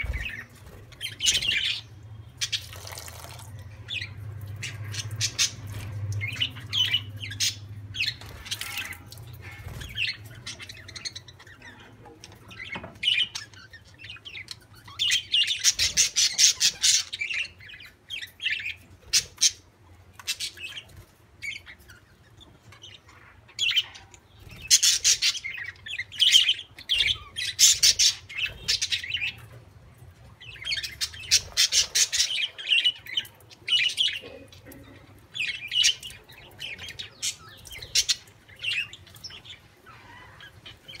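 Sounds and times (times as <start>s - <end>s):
budgerigars chattering and squawking: 0.0s - 3.0s, 3.9s - 19.6s, 20.3s - 29.6s, 30.4s - 41.0s.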